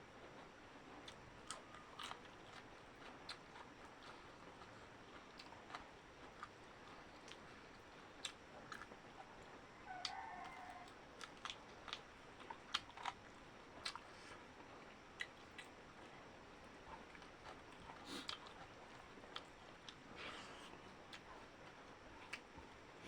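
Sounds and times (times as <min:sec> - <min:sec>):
faint hum: 0:00.0 - 0:23.0
chewing and lip smacks: 0:00.3 - 0:22.8.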